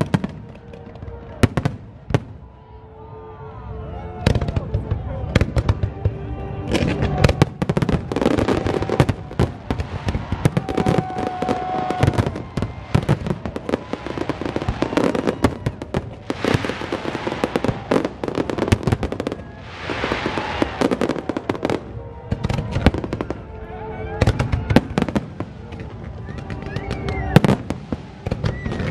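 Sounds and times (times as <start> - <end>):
fireworks bangs and crackles: 0.0 - 2.6, 4.2 - 28.9
hissing crackle of fireworks: 4.3 - 23.5, 24.2 - 28.9.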